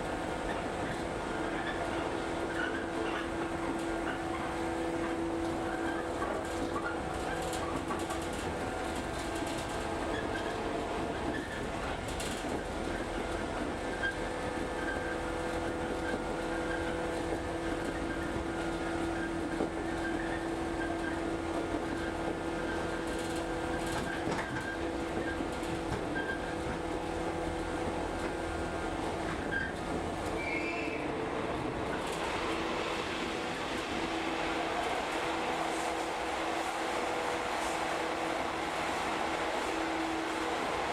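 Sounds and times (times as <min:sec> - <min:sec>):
electric train hum: 0:00.0 - 0:40.9
wheels rumbling on rails: 0:00.0 - 0:40.9.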